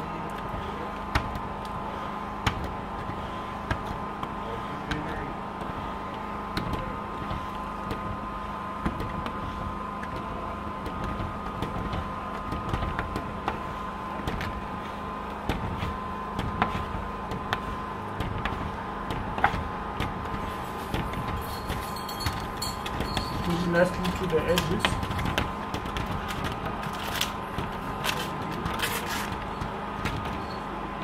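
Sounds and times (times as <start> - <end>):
steady high-toned hum: 0.0 - 31.0.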